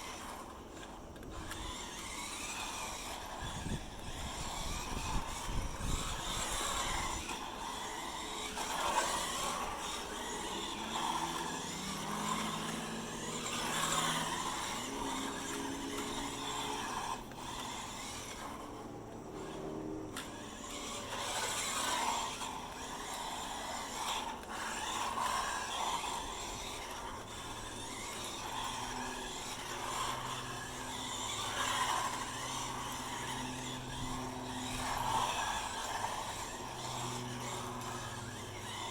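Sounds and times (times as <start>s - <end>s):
small electric motor whirring: 0.0s - 38.9s
tyres skidding on driveway: 0.0s - 38.9s.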